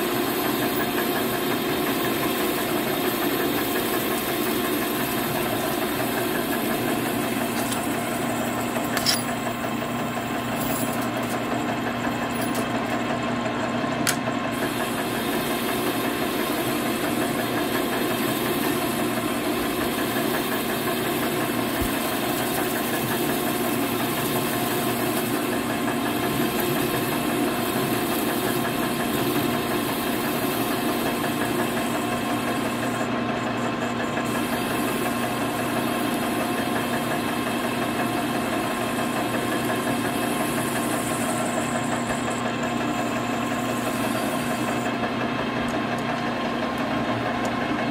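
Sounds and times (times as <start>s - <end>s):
metal lathe cutting: 0.0s - 12.4s, 14.5s - 45.2s.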